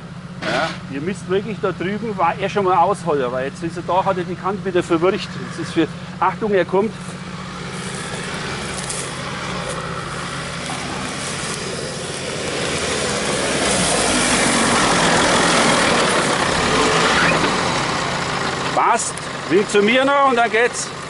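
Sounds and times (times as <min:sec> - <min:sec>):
off-road vehicle engine running: 0:00.0 - 0:21.0.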